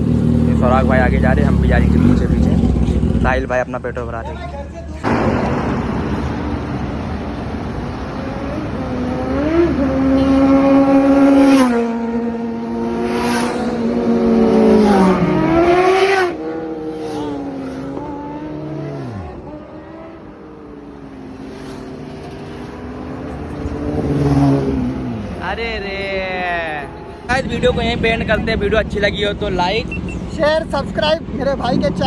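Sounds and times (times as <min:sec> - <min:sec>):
motorcycle engines revving past: 0:00.0 - 0:03.9, 0:05.0 - 0:30.3.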